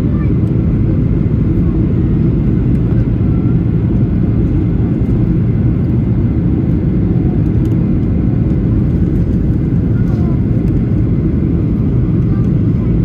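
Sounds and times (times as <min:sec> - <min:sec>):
jet airliner low rumble: 0:00.0 - 0:13.0.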